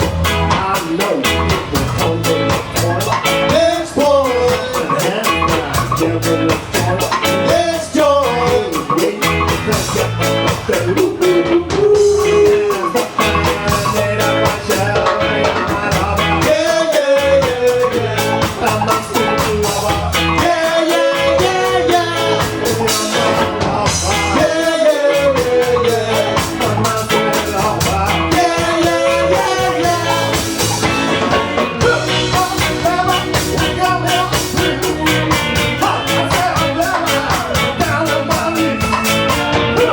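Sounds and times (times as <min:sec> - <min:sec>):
live ska band playing: 0:00.0 - 0:39.9
person singing: 0:00.0 - 0:39.9.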